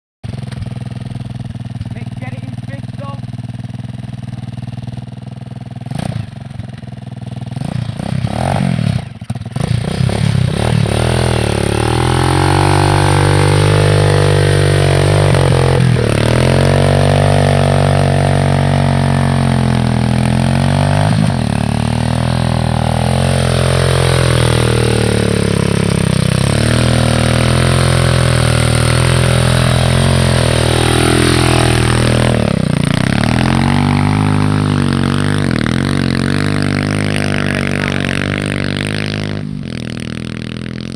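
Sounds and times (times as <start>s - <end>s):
motorbike engine revving: 0.2s - 40.9s.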